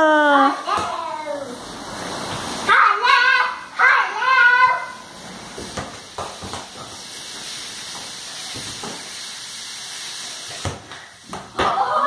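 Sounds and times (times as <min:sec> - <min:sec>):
steady hiss: 0:00.5 - 0:12.0.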